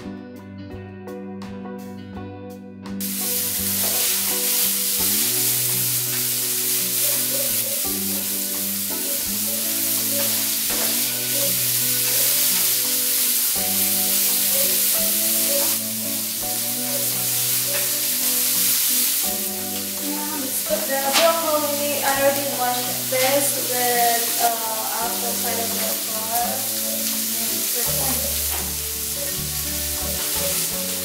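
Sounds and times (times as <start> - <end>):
background music: 0.0 - 31.0
chicken sizzling in a hot pan: 3.0 - 31.0.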